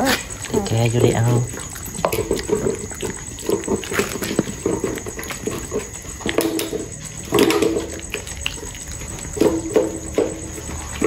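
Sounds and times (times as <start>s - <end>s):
puppy noises: 0.0s - 11.0s.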